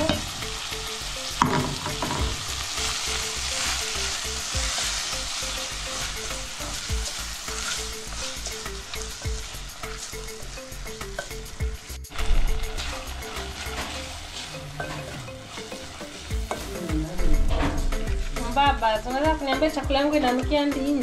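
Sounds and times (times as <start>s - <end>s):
vegetables sizzling in hot oil: 0.0s - 17.1s.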